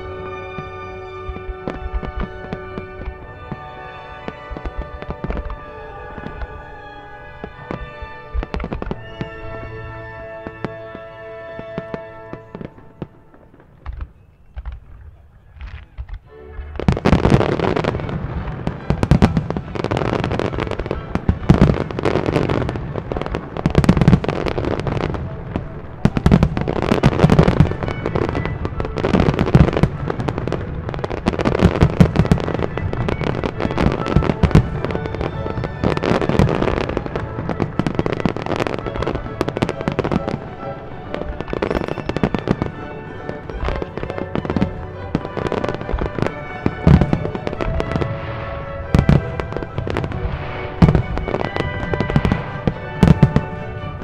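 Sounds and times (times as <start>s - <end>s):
faint orchestral music: 0.0s - 54.0s
fireworks bursting and crackling: 0.0s - 54.0s.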